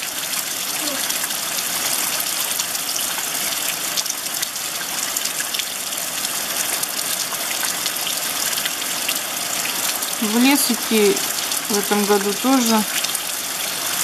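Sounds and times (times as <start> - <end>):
rain on asphalt and puddles: 0.0 - 14.0.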